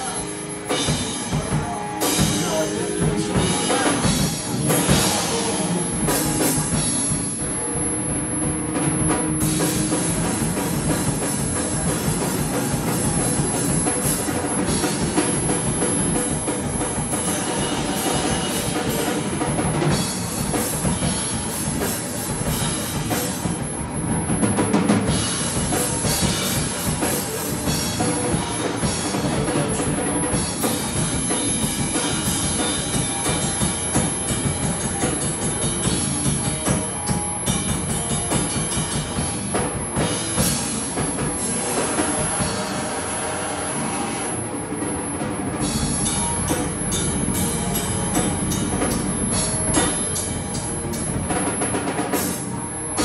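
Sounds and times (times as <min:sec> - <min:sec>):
electric guitar: 0:00.0 - 0:53.0
heavy bass drum: 0:00.0 - 0:53.0
rock band playing: 0:00.0 - 0:53.0.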